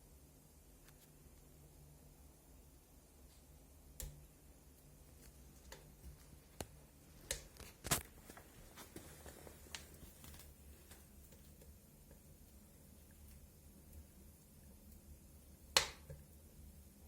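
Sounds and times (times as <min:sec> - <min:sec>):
fire crackling in a stove: 0:00.0 - 0:17.0.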